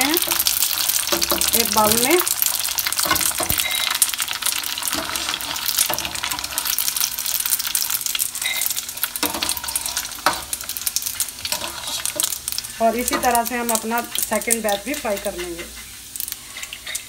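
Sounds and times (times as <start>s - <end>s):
macaroni deep-frying in oil: 0.0s - 17.0s.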